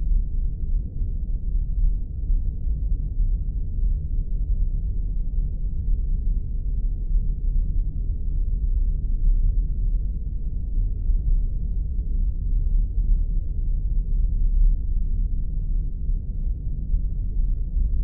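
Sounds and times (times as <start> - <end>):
deep spaceship engine rumble: 0.0 - 18.0.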